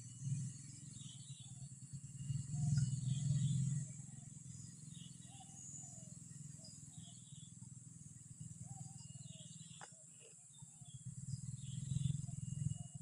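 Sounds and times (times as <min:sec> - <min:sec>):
high insect drone: 0:00.0 - 0:13.0
bird calls: 0:00.2 - 0:13.0.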